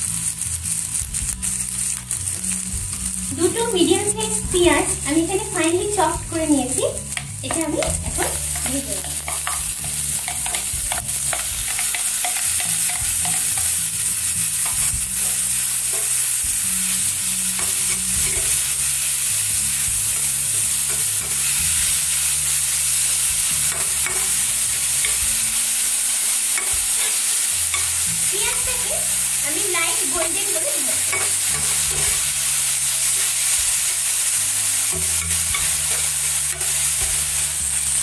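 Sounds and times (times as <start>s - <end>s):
onions sizzling in a pan: 0.0s - 38.0s.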